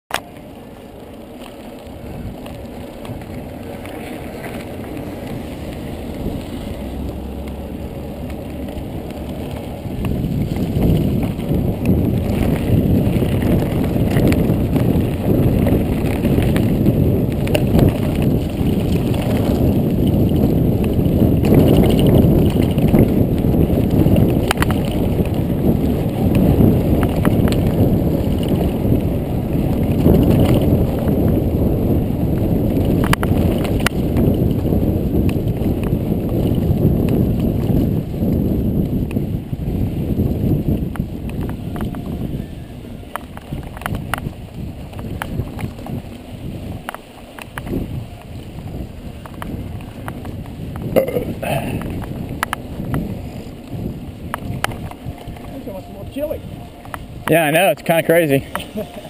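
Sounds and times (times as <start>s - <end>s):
bike clicks and rattles: 0.1s - 55.6s, 56.4s - 59.0s
tyre and wind noise rumble: 0.1s - 59.0s.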